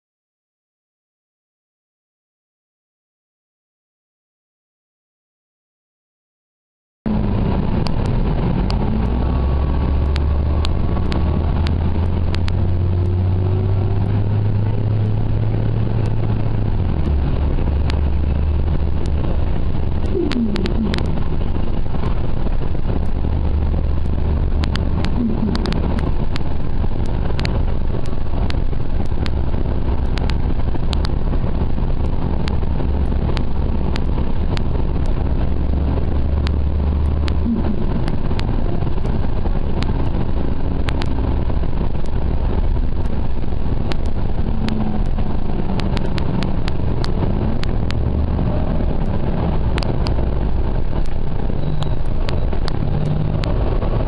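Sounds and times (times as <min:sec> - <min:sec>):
bus engine rumble: 0:07.1 - 0:54.0
transmission whine: 0:07.1 - 0:54.0.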